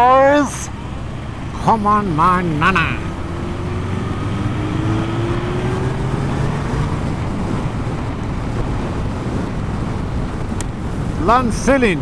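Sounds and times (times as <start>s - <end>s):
motorcycle engine drone: 0.0s - 12.0s
wind buffeting microphone: 0.0s - 12.0s.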